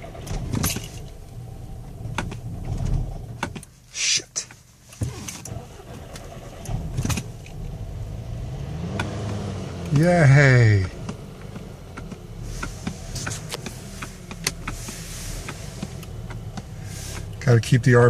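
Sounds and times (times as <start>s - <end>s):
starter motor cranking engine: 0.0s - 3.3s, 5.1s - 17.6s
car engine starting and revving: 0.0s - 3.6s, 5.0s - 18.0s.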